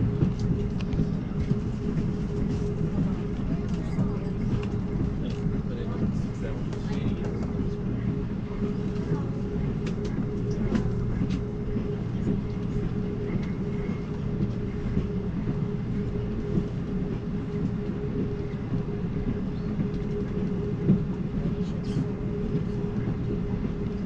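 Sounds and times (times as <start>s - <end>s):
steady hum: 0.0s - 24.0s
train car rumbling: 0.0s - 24.0s.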